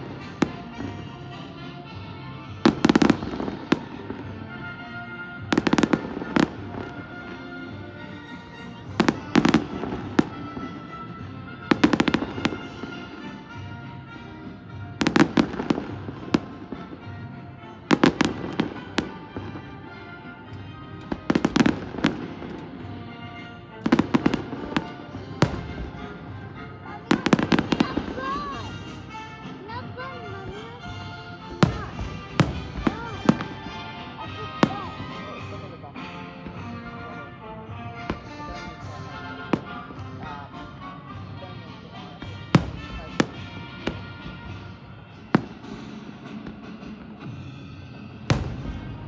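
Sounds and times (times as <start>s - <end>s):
fireworks bangs and crackles: 0.0s - 1.6s, 2.6s - 37.2s, 37.9s - 49.0s
music playing: 0.0s - 49.0s.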